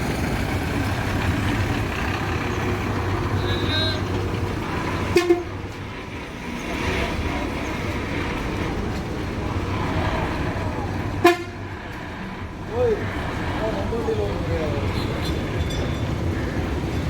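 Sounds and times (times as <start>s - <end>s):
bus engine rumbling: 0.0s - 17.0s.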